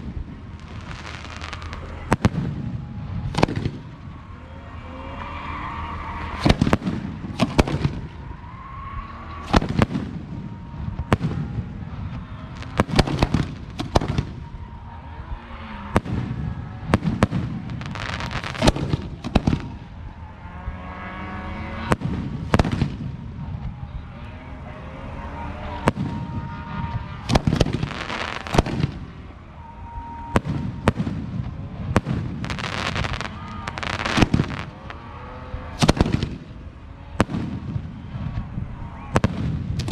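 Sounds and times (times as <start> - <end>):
fireworks bangs and booms: 0.0 - 4.4, 6.2 - 8.4, 9.1 - 20.2, 21.8 - 24.0, 25.8 - 39.9
rumble and echo: 0.0 - 39.9.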